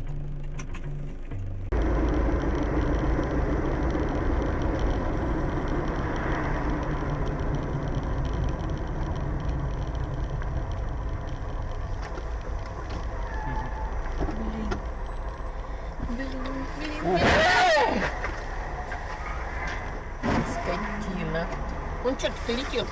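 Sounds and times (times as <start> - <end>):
car driving on road: 0.0 - 22.9.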